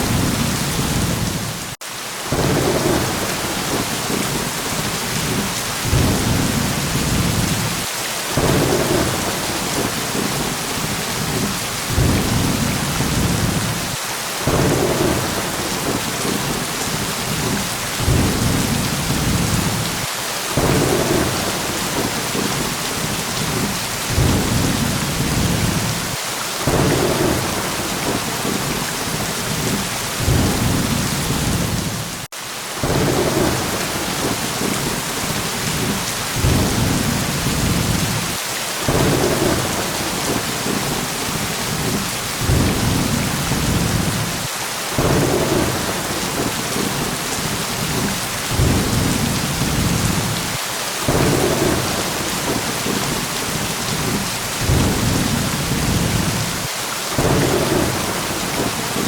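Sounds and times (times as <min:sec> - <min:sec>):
heavy rain hissing: 0:00.0 - 0:59.0
low thunder rumbles: 0:00.0 - 0:59.0.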